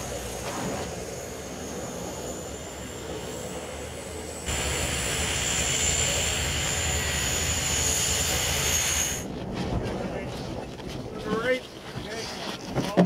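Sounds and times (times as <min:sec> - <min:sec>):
turboprop engines running: 0:00.0 - 0:11.6.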